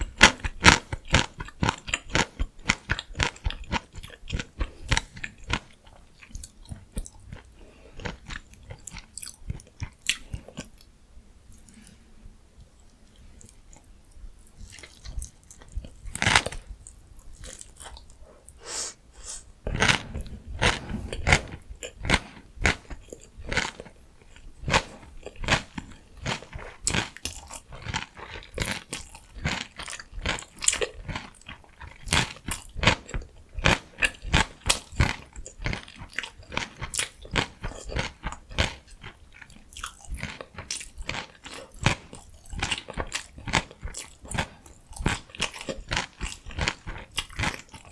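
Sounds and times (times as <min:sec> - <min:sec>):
chewing crunchy food: 0:00.0 - 0:47.9.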